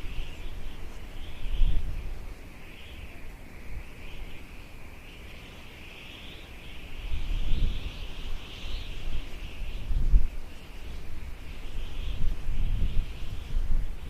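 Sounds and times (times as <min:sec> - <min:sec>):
wind rumble on microphone: 0:00.0 - 0:05.0, 0:06.6 - 0:14.0
high-pitched wildlife chorus: 0:00.0 - 0:14.0.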